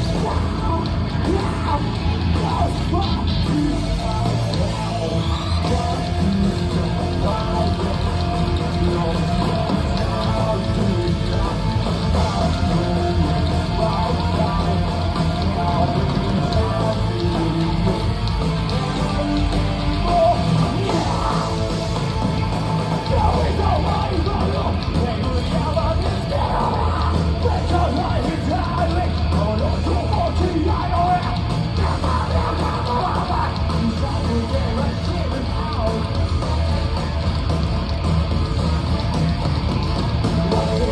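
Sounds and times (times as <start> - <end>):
vocalist shouting and singing: 0.0 - 36.9
live rock band playing: 0.0 - 40.9.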